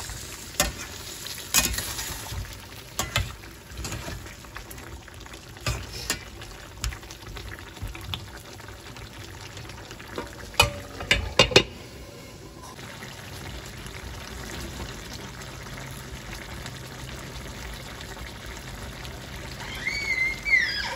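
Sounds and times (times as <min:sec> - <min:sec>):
curry simmering and bubbling: 0:00.0 - 0:20.9.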